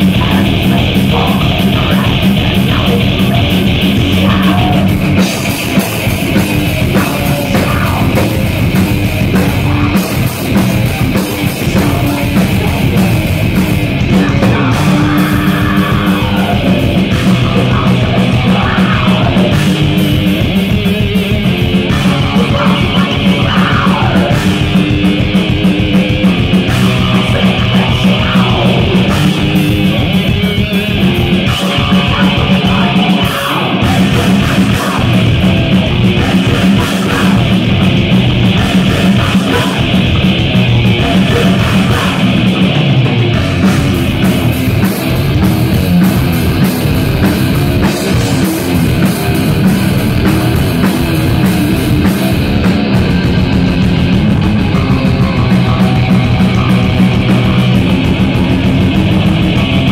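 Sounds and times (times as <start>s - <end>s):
bass guitar: 0.0s - 59.9s
distorted electric guitar riffing: 0.0s - 59.9s
rapid drumming: 0.0s - 59.9s.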